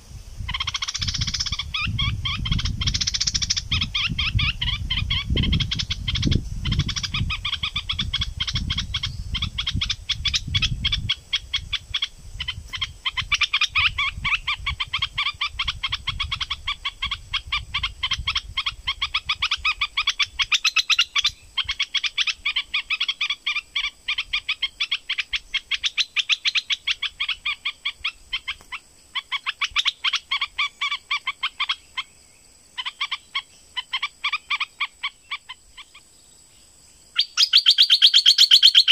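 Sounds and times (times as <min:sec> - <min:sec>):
bird chirping rapidly: 0:00.4 - 0:32.2, 0:37.1 - 0:38.9.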